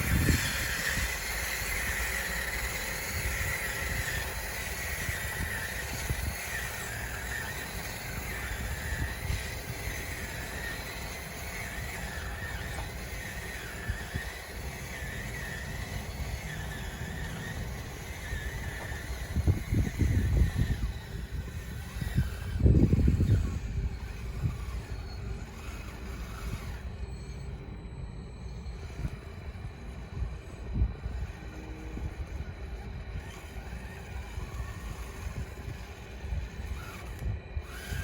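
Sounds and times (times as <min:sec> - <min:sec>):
toy bulldozer motor whine: 0:00.0 - 0:38.0.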